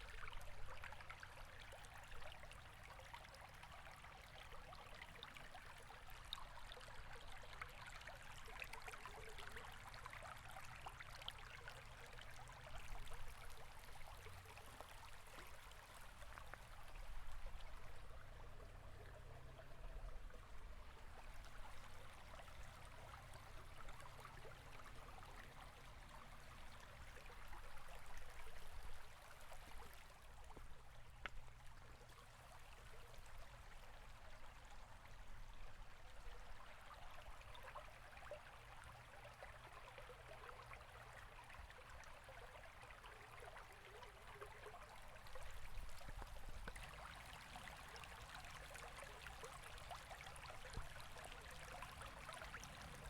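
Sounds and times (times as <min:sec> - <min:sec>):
river water over rocks: 0:00.0 - 0:53.0.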